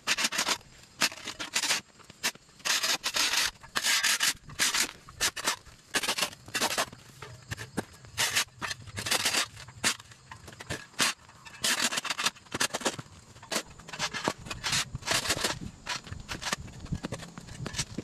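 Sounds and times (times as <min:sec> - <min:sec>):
shovel scraping concrete: 0:00.0 - 0:18.0.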